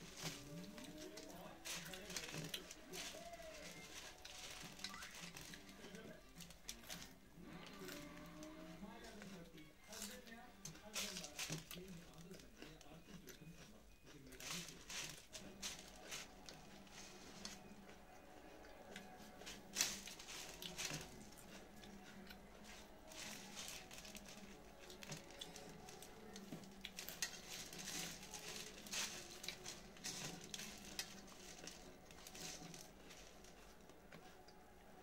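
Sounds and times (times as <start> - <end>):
chewing crunchy food: 0.0 - 35.0
rustling of dry puffed rice: 0.0 - 35.0.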